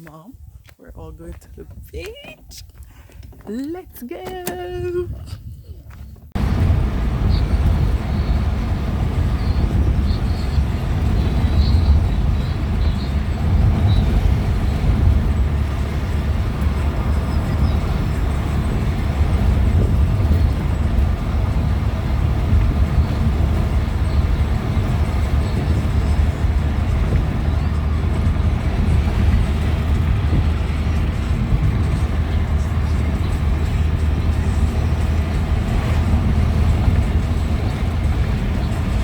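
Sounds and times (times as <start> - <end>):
car interior road noise: 0.0 - 39.0.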